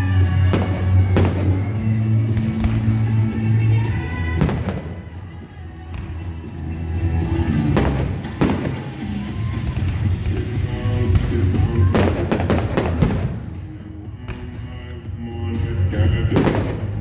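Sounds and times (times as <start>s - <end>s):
fireworks bangs and crackles: 0.0s - 14.8s, 15.8s - 17.0s
loud music with heavy bass: 0.0s - 17.0s.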